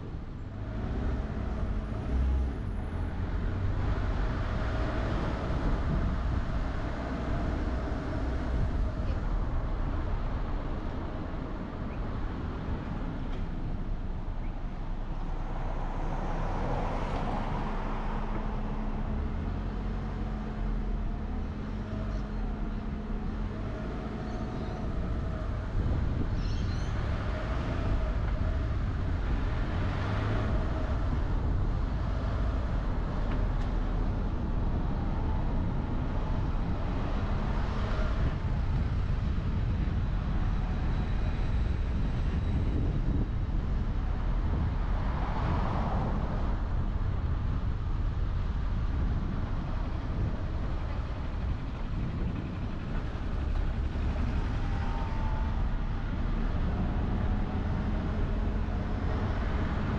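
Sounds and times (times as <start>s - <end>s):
car road and engine rumble: 0.0s - 59.9s
traffic noise: 0.0s - 59.9s.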